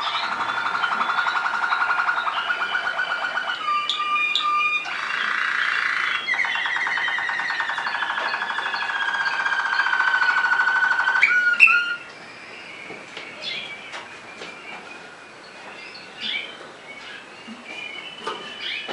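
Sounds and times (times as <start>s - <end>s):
canary singing trills: 0.0s - 18.9s.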